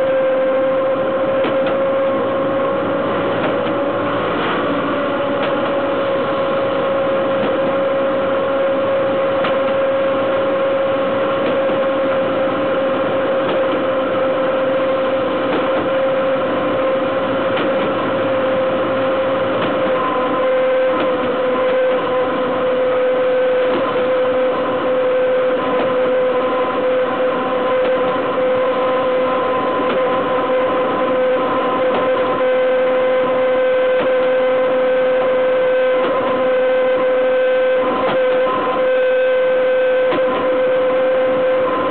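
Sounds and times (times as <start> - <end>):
locomotive whine: 0.0 - 41.9
locomotive wheels on rails: 1.1 - 41.9.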